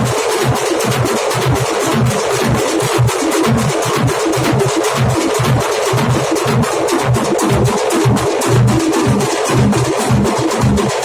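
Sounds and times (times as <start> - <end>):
dhol drums beating fast rhythm: 0.0 - 11.0.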